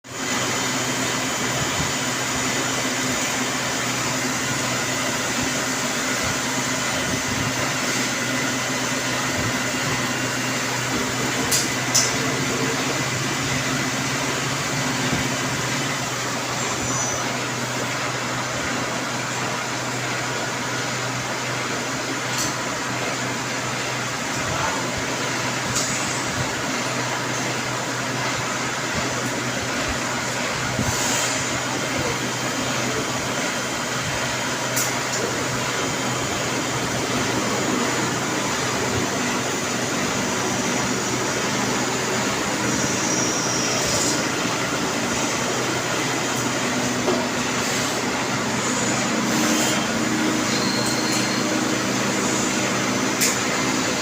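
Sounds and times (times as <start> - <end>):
machine mechanical hum: 0.1 - 54.0.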